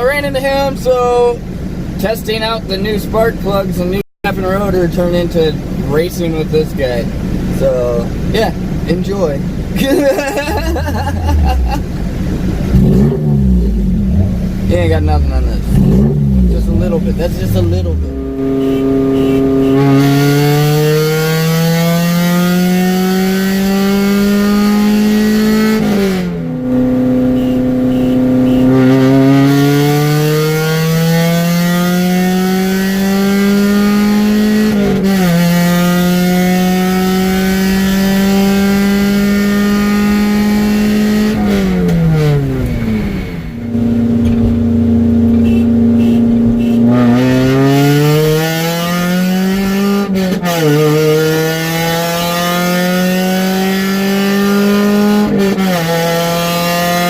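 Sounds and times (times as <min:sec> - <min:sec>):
car engine accelerating through gears: 0:07.2 - 0:57.0.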